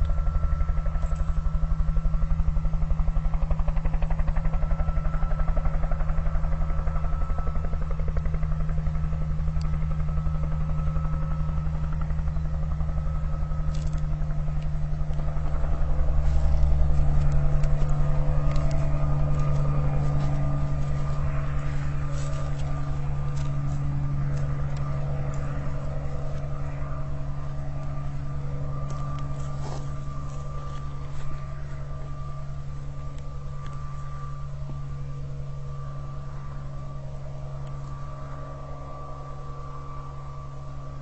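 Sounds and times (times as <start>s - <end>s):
engine running with rapid throb: 0.0s - 41.0s.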